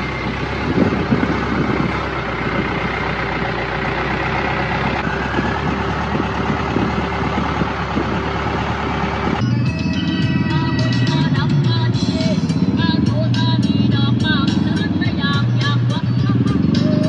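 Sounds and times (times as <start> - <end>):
boat engine rattling drone: 0.0 - 17.0.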